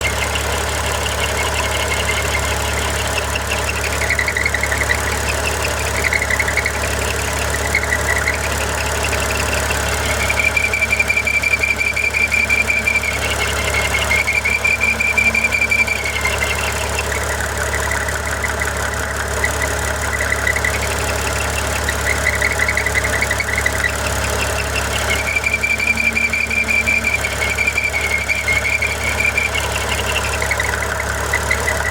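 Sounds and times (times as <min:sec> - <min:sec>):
car engine idling: 0:00.0 - 0:31.9
drive belt squealing: 0:00.0 - 0:31.9.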